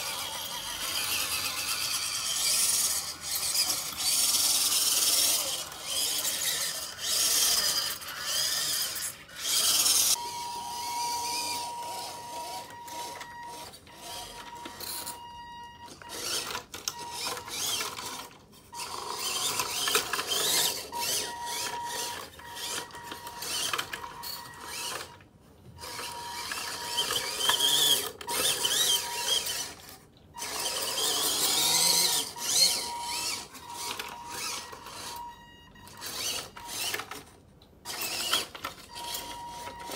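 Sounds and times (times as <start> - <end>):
small electric motor whining: 0.0 - 15.3, 16.0 - 25.2, 25.8 - 37.3, 37.9 - 39.9.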